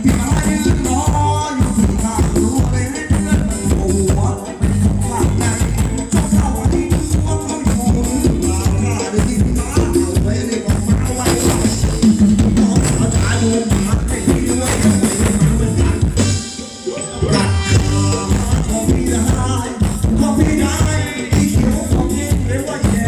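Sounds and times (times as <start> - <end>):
live band playing dance music: 0.0 - 23.0
percussion keeping the beat: 0.0 - 23.0
person singing: 0.0 - 23.0.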